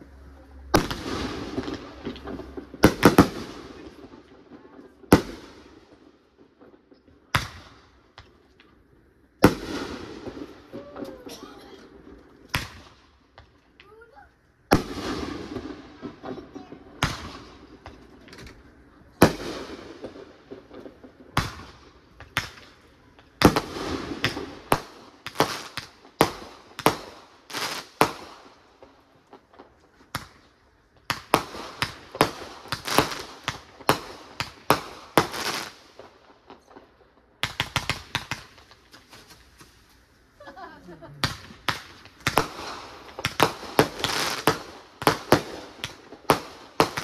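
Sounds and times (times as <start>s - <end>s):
firework crackling: 0.0s - 47.0s
fireworks bangs: 0.0s - 47.0s.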